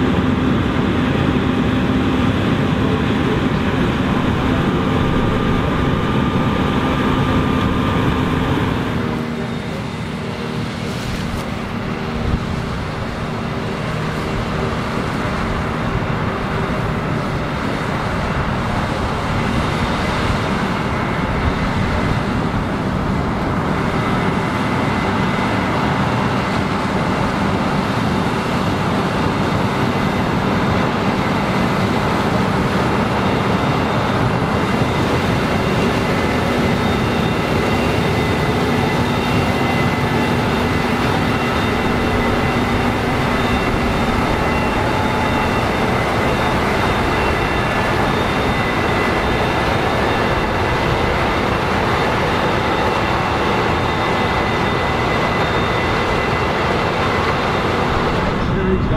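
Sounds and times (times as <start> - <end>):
combine harvester drone: 0.0 - 58.9
high machinery whines: 0.0 - 58.9.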